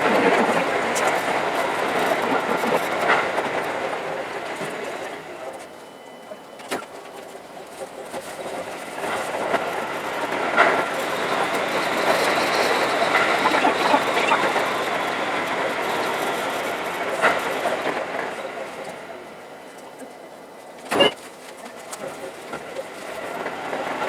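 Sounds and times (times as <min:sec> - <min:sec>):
commuter train running on track: 0:00.0 - 0:24.0.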